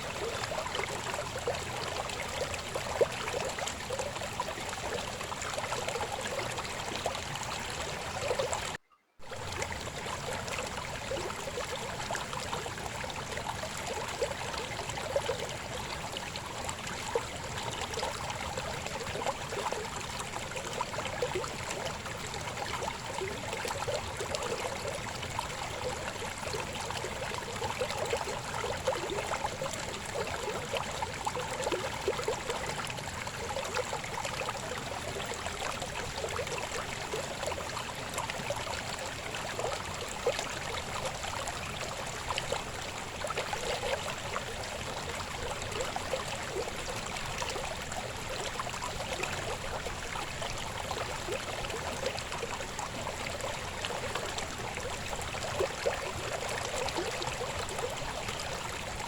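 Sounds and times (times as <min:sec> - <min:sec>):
babbling river: 0:00.0 - 0:59.0.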